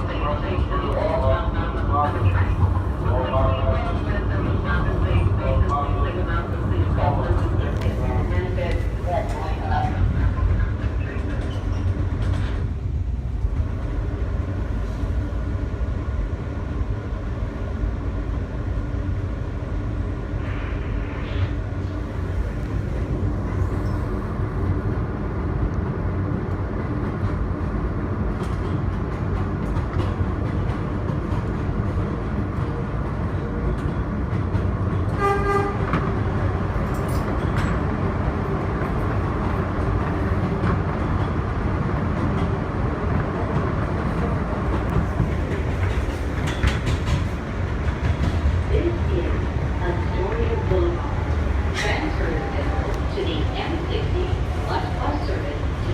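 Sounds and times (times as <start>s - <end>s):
subway wheels rumbling on rail: 0.0s - 55.9s.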